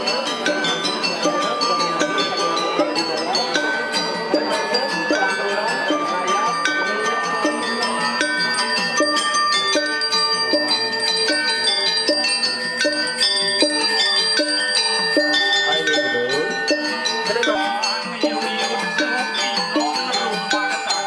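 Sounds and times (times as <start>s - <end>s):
brass handbell ringing: 0.0s - 21.0s
metallophones playing struck notes: 0.0s - 21.0s.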